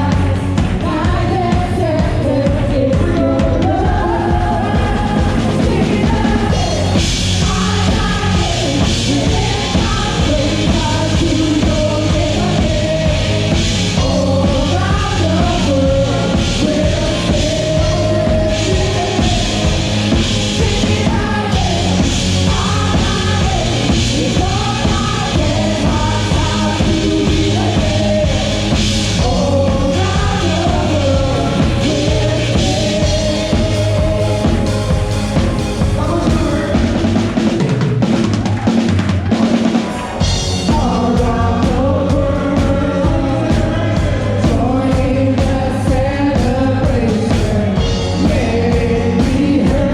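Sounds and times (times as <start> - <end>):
drum kit: 0.0 - 49.9
person singing: 0.0 - 49.9
rock band playing: 0.0 - 49.9.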